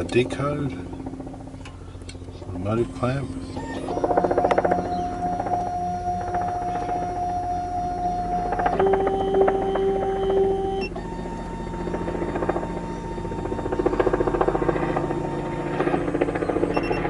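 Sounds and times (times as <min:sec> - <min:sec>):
key cutting machine motor whine: 0:00.0 - 0:17.0.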